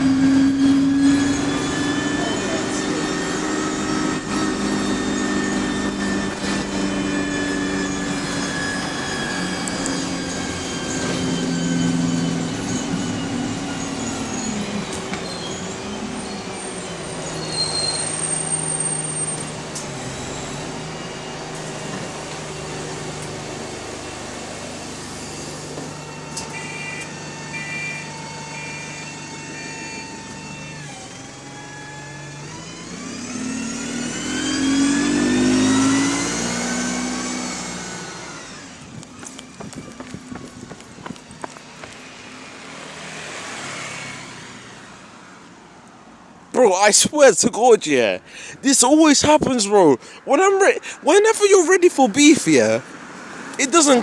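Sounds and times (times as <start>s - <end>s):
bus engine and gearbox whine: 0.0s - 54.0s.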